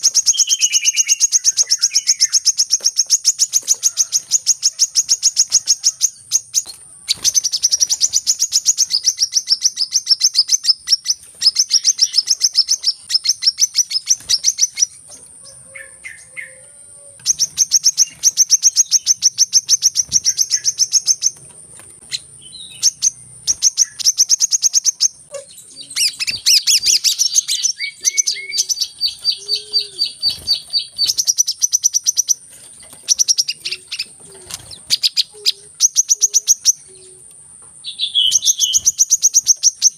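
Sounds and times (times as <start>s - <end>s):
birds chirping trills: 0.0s - 39.9s.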